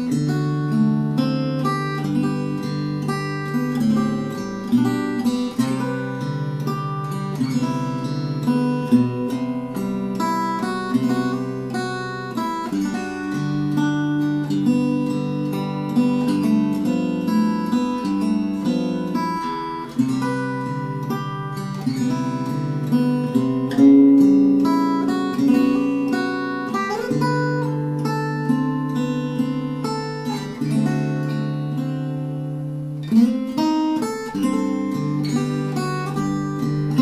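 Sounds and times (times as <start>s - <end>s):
fingerstyle acoustic guitar: 0.0s - 37.0s.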